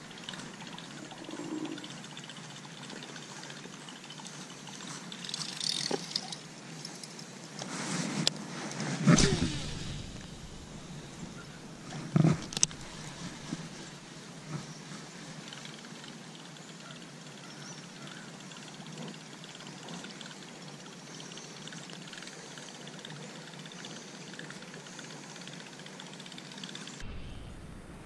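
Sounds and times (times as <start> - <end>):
light rain patter: 0.0 - 27.0.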